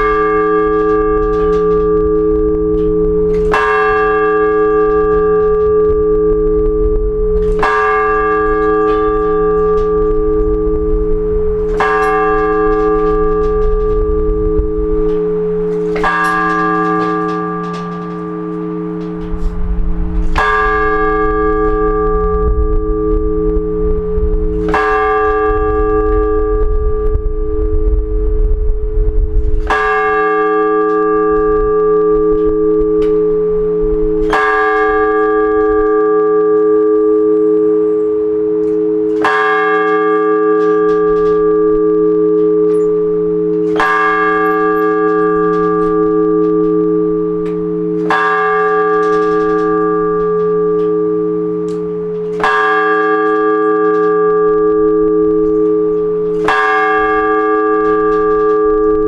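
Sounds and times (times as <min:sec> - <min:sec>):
church bell strokes: 0:00.0 - 0:59.0.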